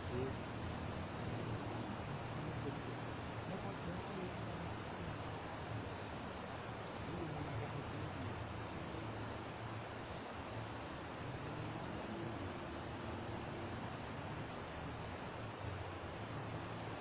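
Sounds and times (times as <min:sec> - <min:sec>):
insects trilling: 0:00.0 - 0:17.0
soft even hiss: 0:00.0 - 0:17.0.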